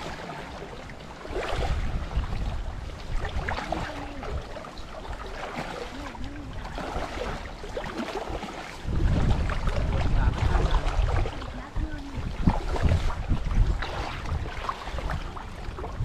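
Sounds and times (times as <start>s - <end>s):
creek water splashing: 0.0s - 16.0s
wind rumbling on microphone: 0.0s - 16.0s.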